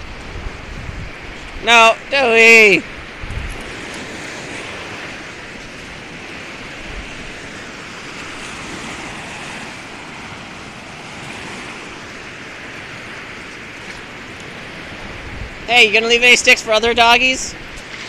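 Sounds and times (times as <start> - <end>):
small waves breaking on beach: 0.0 - 18.0.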